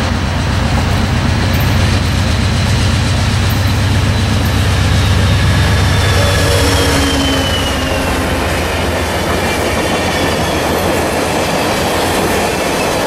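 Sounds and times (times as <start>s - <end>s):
low locomotive engine rumble: 0.0s - 13.0s
rush of wheels on rail: 0.0s - 13.0s
faint high whine: 0.2s - 10.9s.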